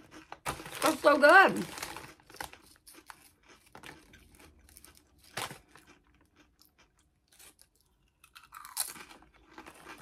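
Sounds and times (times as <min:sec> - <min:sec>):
potato chips crunching: 0:00.0 - 0:10.0.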